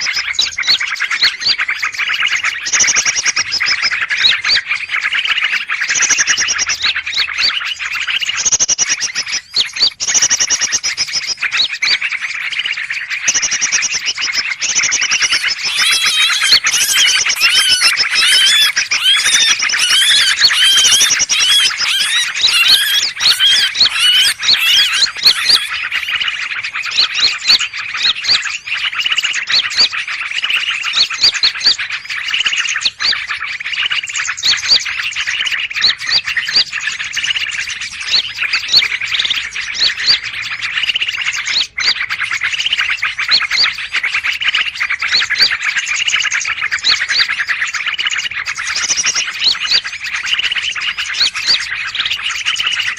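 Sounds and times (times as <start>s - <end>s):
small birds chirping and trilling: 0.0s - 52.9s.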